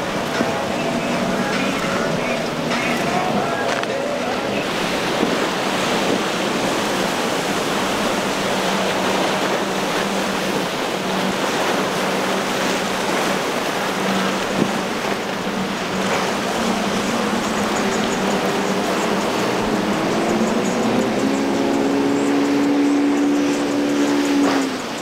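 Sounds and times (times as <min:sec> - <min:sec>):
boat engine droning: 0:00.0 - 0:25.0
surf and wind rushing: 0:00.0 - 0:25.0.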